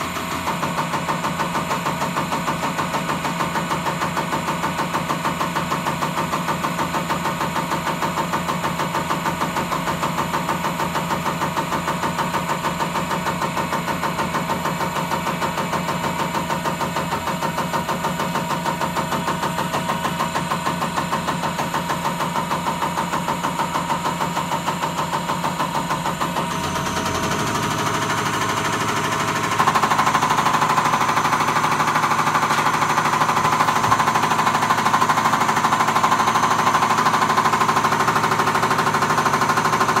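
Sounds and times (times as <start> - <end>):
pump test bench mechanical knocking: 0.0 - 40.0.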